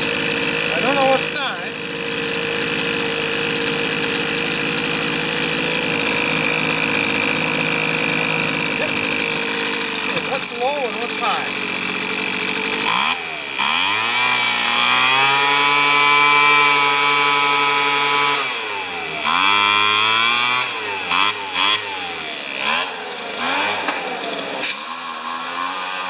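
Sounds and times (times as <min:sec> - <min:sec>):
leaf blower engine revving: 0:00.0 - 0:26.0.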